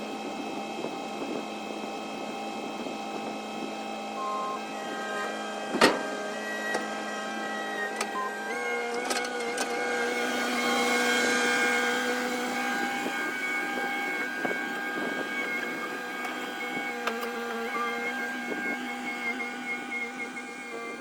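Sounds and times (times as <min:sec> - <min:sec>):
machine whining with hiss: 0:04.1 - 0:21.0.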